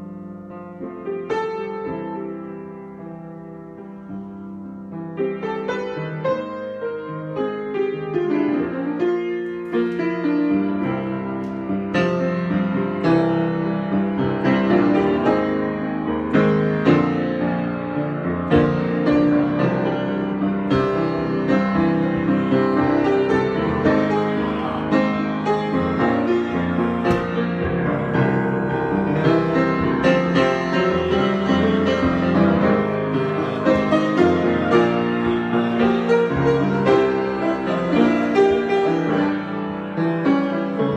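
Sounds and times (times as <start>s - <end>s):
solo piano: 0.0s - 40.9s.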